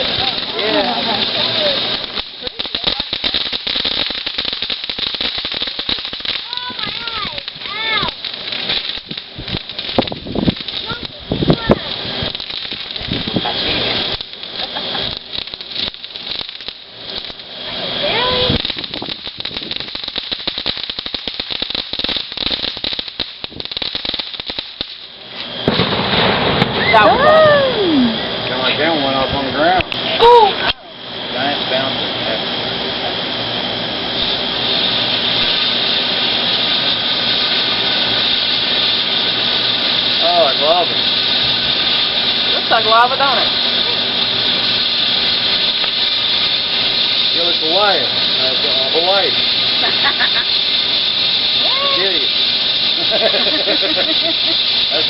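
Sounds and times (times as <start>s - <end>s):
fireworks crackling: 0.0s - 55.0s
steady hiss: 0.0s - 55.0s.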